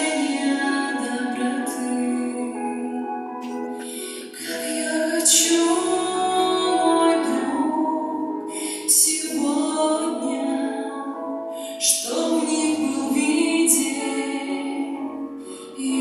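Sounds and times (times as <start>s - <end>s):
women singing slow song: 0.0s - 16.0s.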